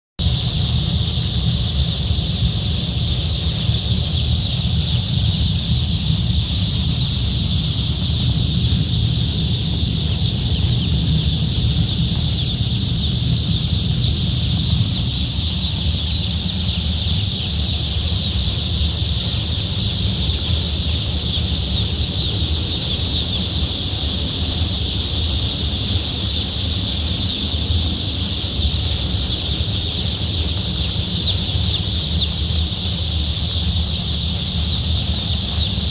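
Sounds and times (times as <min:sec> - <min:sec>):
chicks peeping: 0:00.2 - 0:35.9
low rumble: 0:00.2 - 0:35.9.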